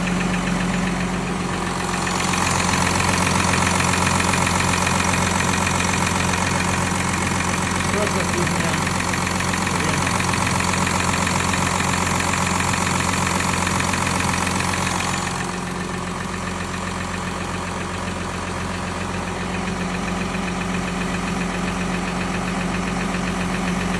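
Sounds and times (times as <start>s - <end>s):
diesel engine idling with knock: 0.0s - 23.9s.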